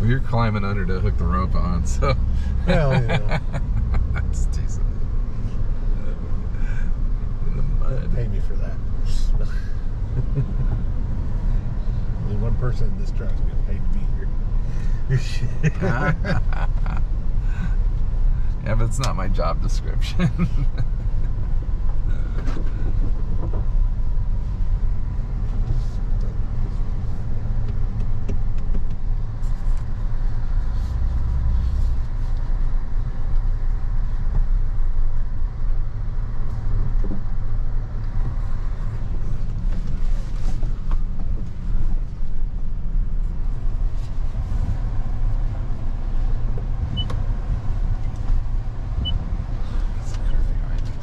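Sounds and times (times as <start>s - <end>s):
truck engine and road rumble: 0.0s - 51.0s.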